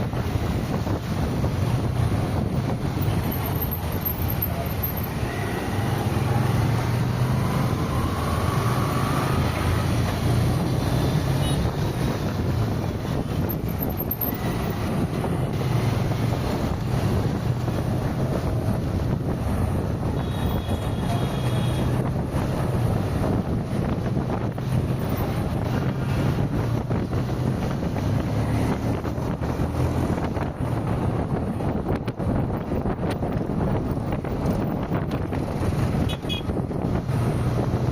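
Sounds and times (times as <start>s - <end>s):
car engine and tyre rumble: 0.0s - 37.9s
wind noise: 0.0s - 37.9s.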